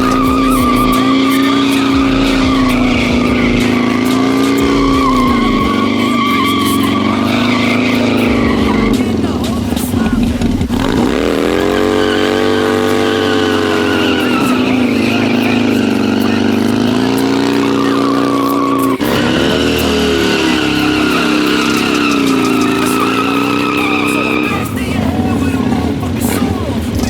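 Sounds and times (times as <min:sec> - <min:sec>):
motorcycle engine revving: 0:00.0 - 0:27.0
tire squealing on pavement: 0:00.0 - 0:27.0.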